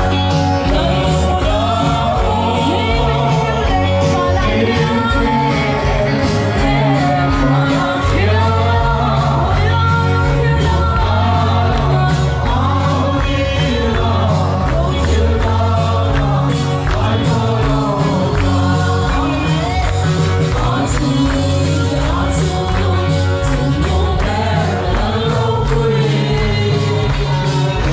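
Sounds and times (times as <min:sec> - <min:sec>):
bass: 0:00.0 - 0:27.9
drums: 0:00.0 - 0:27.9
voices singing: 0:00.0 - 0:27.9.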